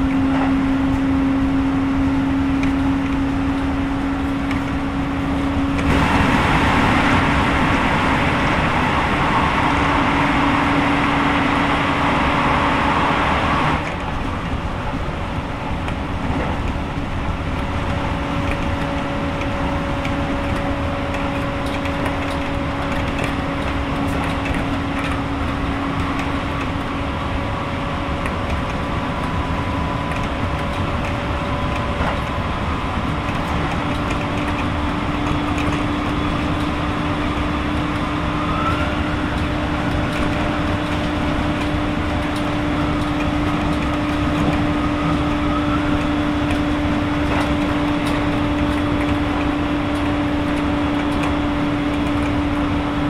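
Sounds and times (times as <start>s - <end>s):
electric train motor whine: 0.0s - 53.0s
wheels rumbling on rail: 0.0s - 53.0s.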